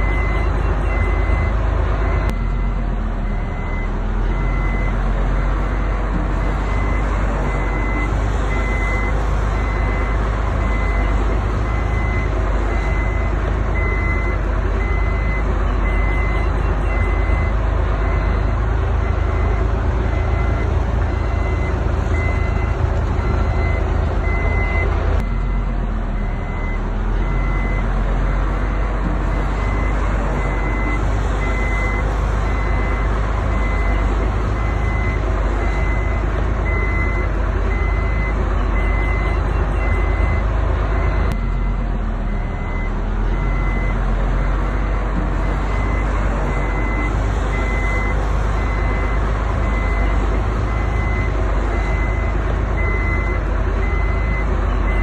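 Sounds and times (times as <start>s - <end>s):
heavy construction machinery: 0.0s - 55.0s
reversing alarm beeping: 0.0s - 55.0s.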